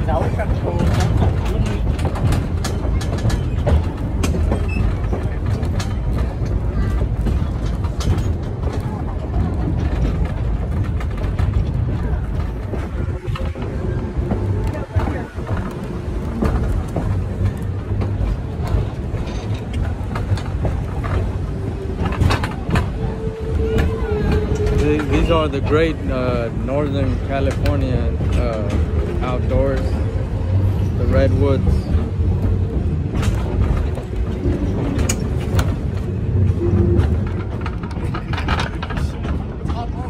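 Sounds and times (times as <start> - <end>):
passenger train rumbling: 0.0 - 40.0
wheels clacking and knocking: 0.0 - 40.0.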